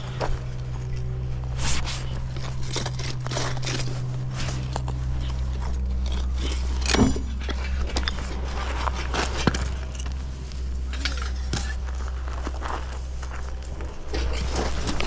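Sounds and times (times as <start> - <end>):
steady low hum: 0.0 - 15.0
clinks knocks and scrapes: 1.5 - 15.0.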